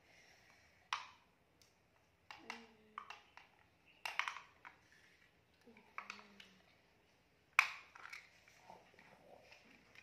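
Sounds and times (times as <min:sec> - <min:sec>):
plastic toys clacking on tile floor: 0:00.9 - 0:06.8, 0:07.5 - 0:10.0.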